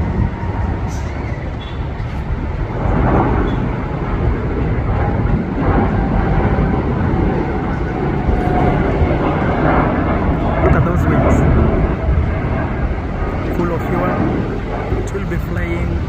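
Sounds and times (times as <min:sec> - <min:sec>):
jet engines at takeoff thrust: 0:00.0 - 0:16.0.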